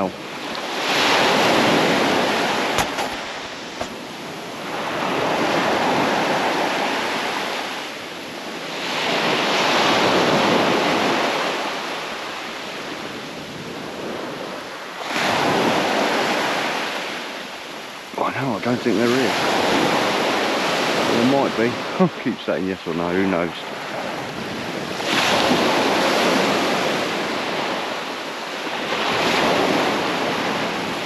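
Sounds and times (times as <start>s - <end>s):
waves breaking on a beach: 0.0s - 31.0s.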